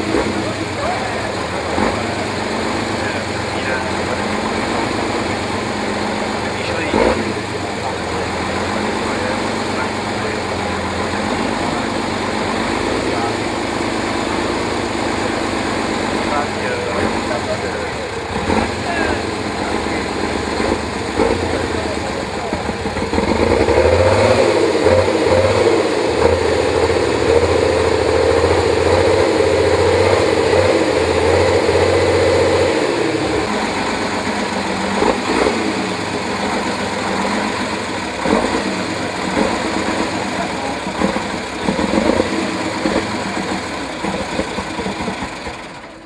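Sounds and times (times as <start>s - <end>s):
motorcycle engine at high revs: 0.0s - 46.0s.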